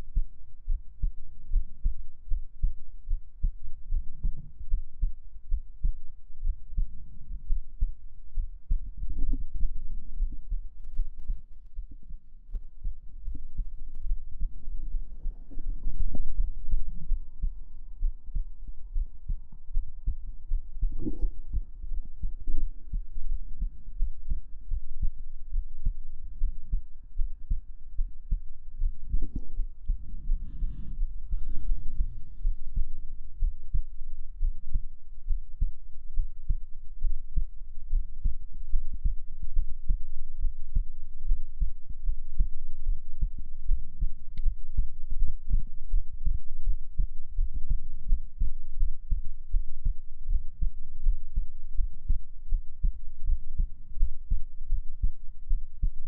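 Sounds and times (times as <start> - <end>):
heartbeat thumps: 0.0 - 56.0.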